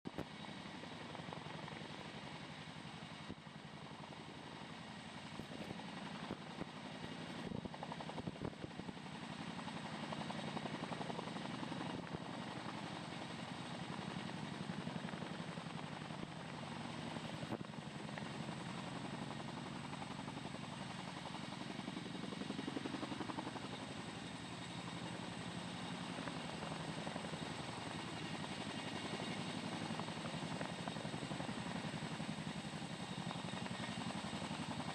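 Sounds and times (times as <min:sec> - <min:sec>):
helicopter turbine noise: 0:00.1 - 0:34.9
helicopter rotor blades beating: 0:00.3 - 0:34.9.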